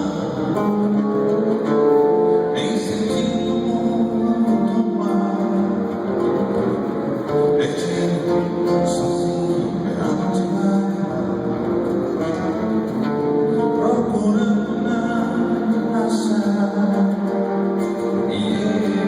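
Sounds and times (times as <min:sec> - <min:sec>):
instrumental guitar music: 0:00.0 - 0:19.0.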